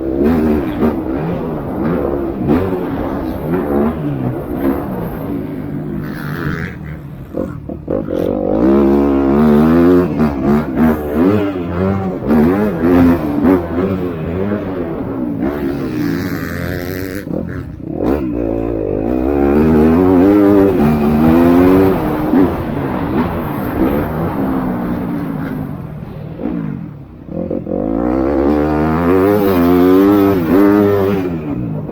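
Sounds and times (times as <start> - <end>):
motocross bike engines revving: 0.0 - 31.9.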